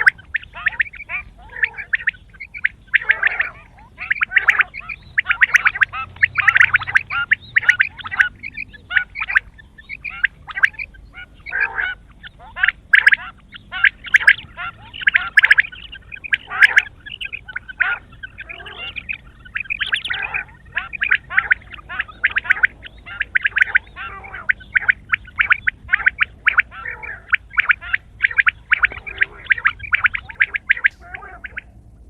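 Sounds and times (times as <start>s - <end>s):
quail calling: 0.0s - 32.0s.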